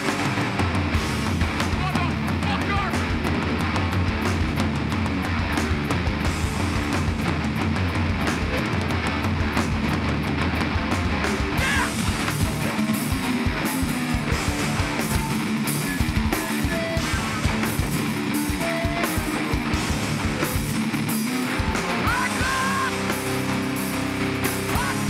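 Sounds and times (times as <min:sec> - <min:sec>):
bass guitar: 0:00.0 - 0:25.0
distorted electric guitars: 0:00.0 - 0:25.0
pounding drums: 0:00.0 - 0:25.0.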